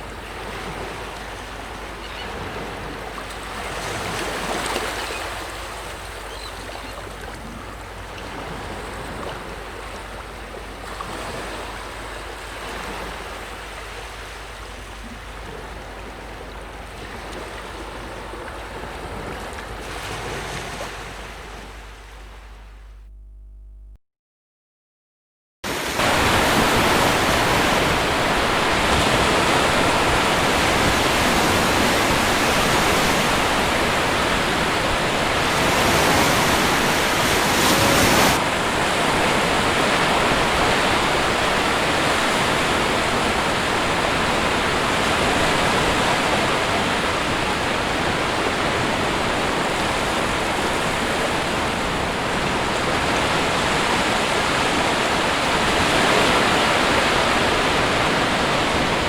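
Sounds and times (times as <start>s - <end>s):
sea waves breaking: 0.0s - 22.8s, 25.7s - 59.0s.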